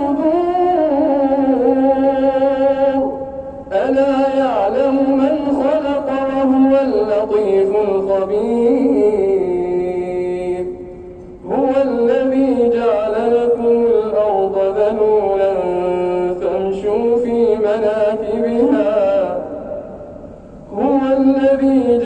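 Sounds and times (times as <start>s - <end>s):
man chanting melodically: 0.0s - 22.0s.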